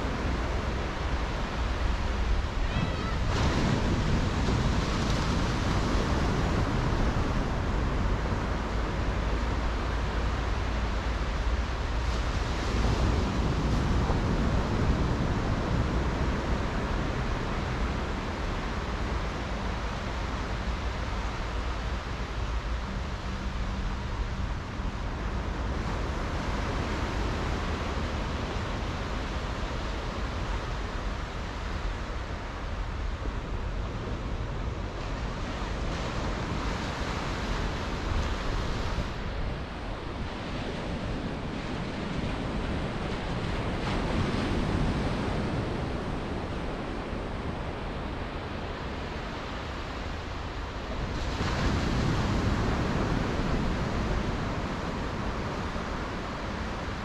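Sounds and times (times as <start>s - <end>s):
small waves breaking on beach: 0.0s - 57.0s
wind noise on microphone: 0.0s - 57.0s.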